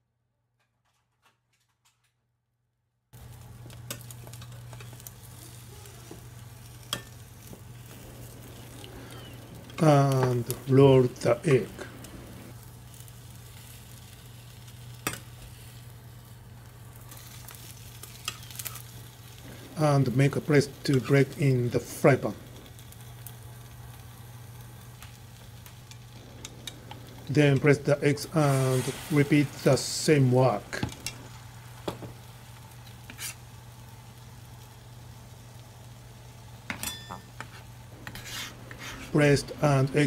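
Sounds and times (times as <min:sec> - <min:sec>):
egg sizzling in a pan: 0:03.2 - 0:40.0
steady low hum: 0:03.2 - 0:40.0.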